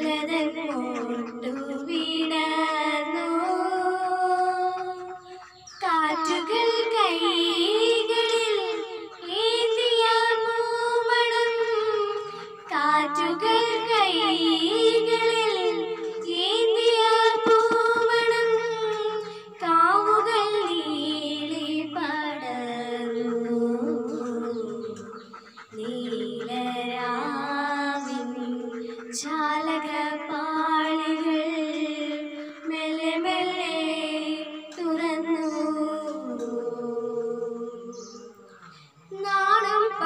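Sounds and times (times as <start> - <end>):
girl singing into a microphone: 0.0 - 38.3, 39.1 - 40.0.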